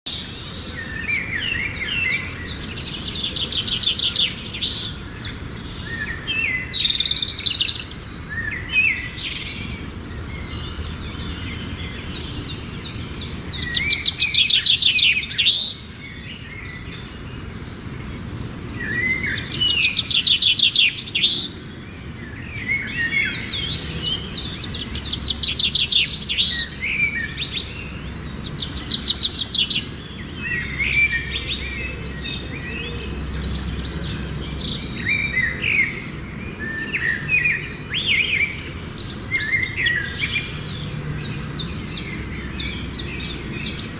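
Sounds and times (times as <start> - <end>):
bird singing trills and chirps: 0.0 - 43.9.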